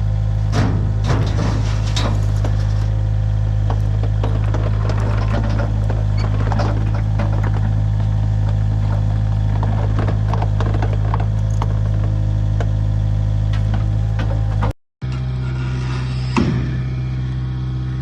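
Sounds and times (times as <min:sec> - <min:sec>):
different engine sound: 0:00.0 - 0:18.0
engine running with low hum: 0:00.0 - 0:18.0.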